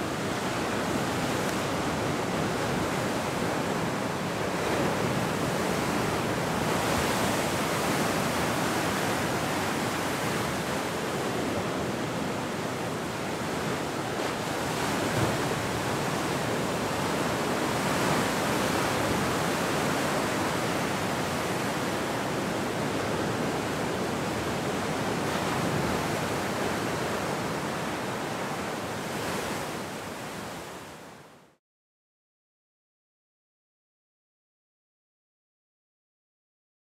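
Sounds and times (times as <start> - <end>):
ocean surf breaking: 0.0 - 31.0.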